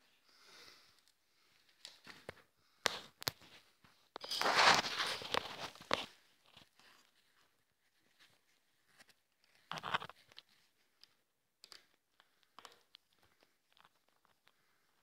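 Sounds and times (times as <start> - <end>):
parts rustling and clicking: 1.0 - 15.0.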